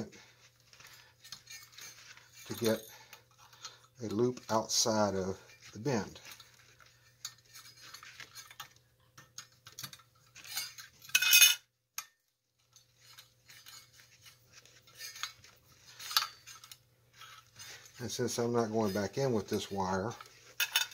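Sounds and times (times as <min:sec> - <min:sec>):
metal clinks and scrapes: 0:00.0 - 0:20.9.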